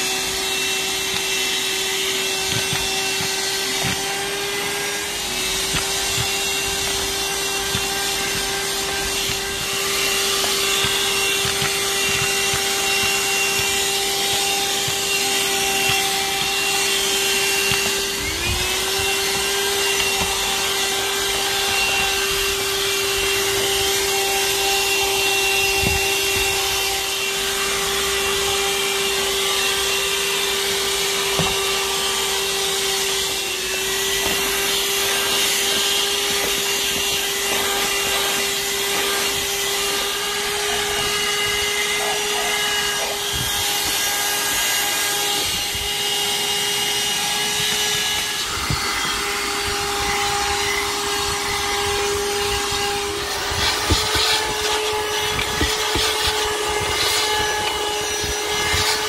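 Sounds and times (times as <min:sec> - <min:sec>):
car vacuum motor whine: 0:00.0 - 0:59.0.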